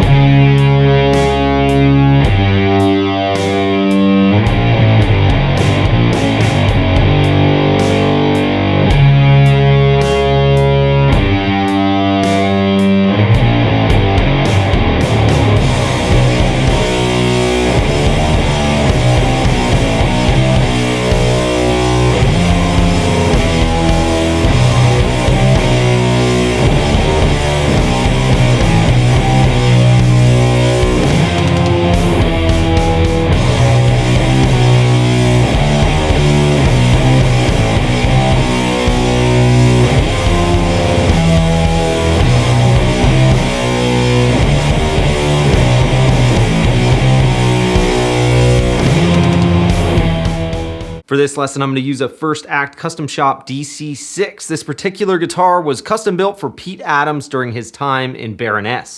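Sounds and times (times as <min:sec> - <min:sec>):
distorted electric guitar riff: 0:00.0 - 0:51.1.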